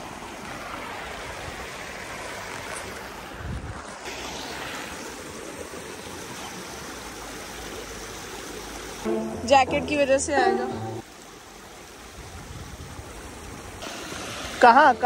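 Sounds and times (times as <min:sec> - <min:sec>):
river stream flowing: 0:00.0 - 0:15.0.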